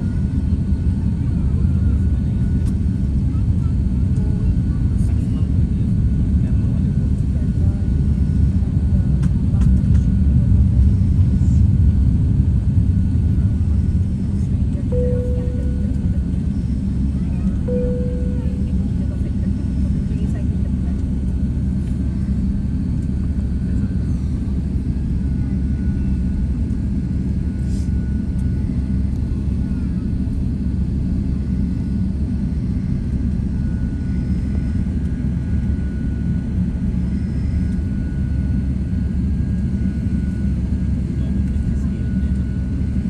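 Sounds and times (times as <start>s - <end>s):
jet airliner rumble: 0.0s - 43.0s.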